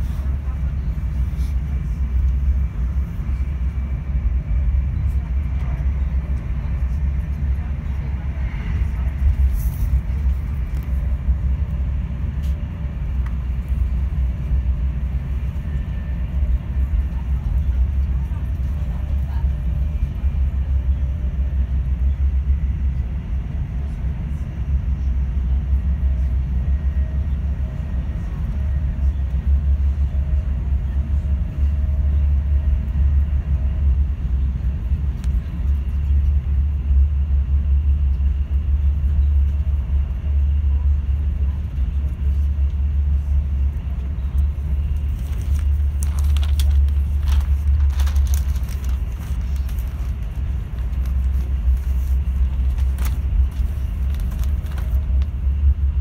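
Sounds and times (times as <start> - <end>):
train rumble inside carriage: 0.0 - 56.0.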